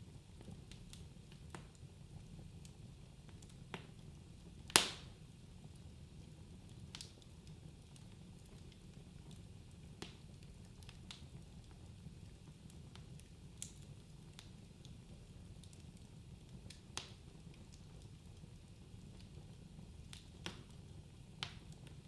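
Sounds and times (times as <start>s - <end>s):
fire crackles and pops: 0.0s - 22.0s.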